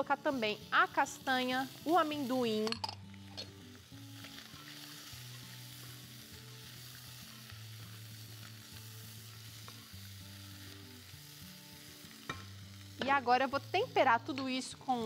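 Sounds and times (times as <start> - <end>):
food sizzling in hot oil: 0.0 - 15.0
soft background music: 0.0 - 15.0.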